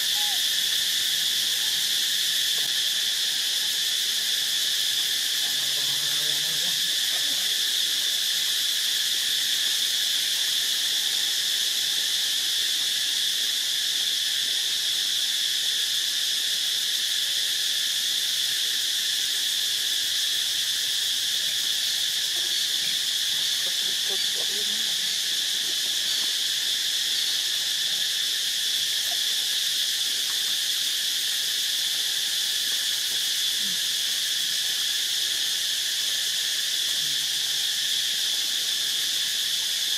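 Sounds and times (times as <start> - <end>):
chorus of insects droning: 0.0 - 39.9.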